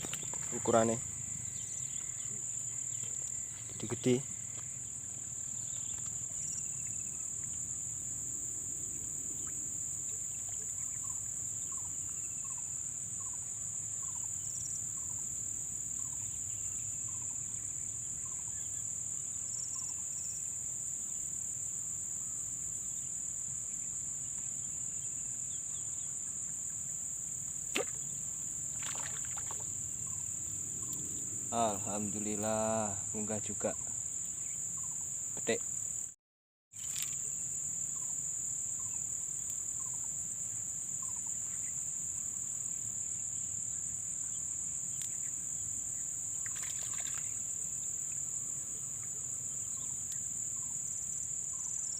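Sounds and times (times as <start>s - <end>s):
insect chorus droning: 0.0s - 51.9s.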